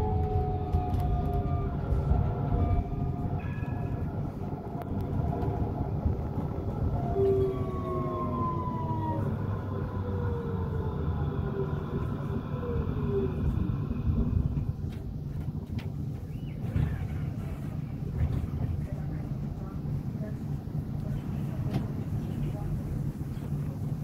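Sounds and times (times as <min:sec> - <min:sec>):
tram rumble: 0:00.0 - 0:24.0.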